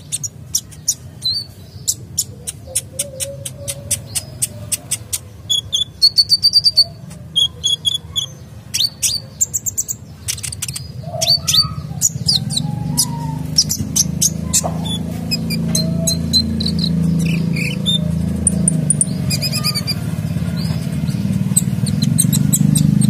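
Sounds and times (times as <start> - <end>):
sunbird singing high chirps: 0.0 - 23.0.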